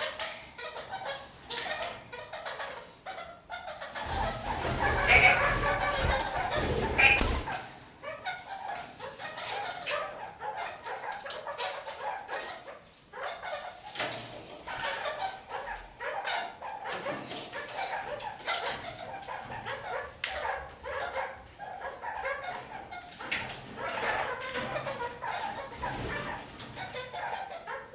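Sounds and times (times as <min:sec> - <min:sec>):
parakeets chattering and calling: 0:00.0 - 0:27.9.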